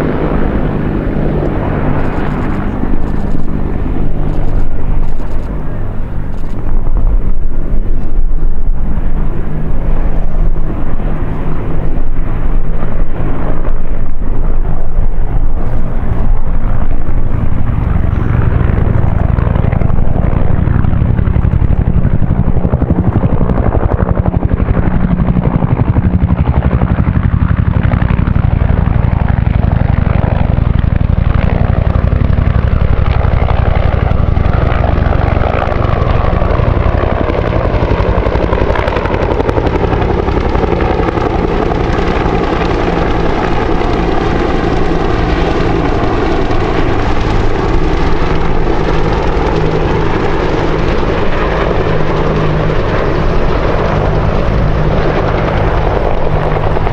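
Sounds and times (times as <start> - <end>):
helicopter rotors beating: 0.0 - 56.9
turboshaft engine noise: 0.0 - 56.9.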